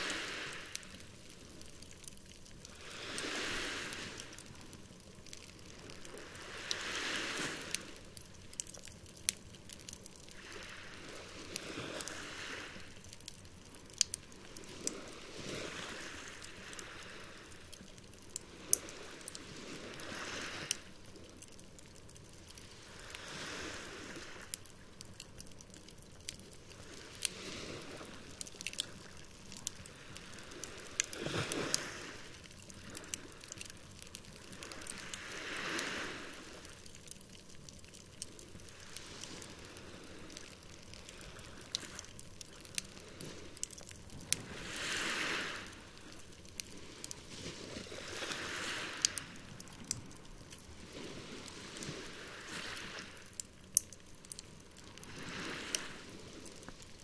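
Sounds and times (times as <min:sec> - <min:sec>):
campfire crackling and popping: 0:00.0 - 0:57.0
small waves washing ashore: 0:00.0 - 0:57.0.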